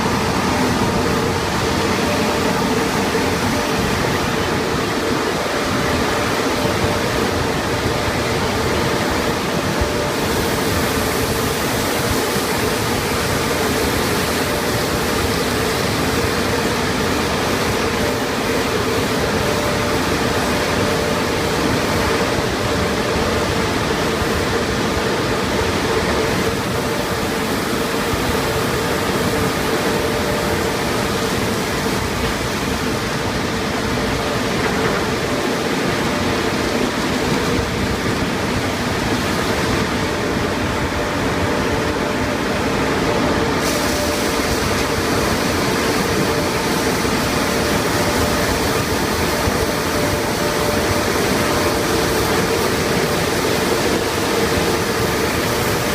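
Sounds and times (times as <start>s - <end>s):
high hiss: 0.0s - 55.9s
machinery noise: 0.0s - 55.9s
water spray: 0.0s - 55.9s.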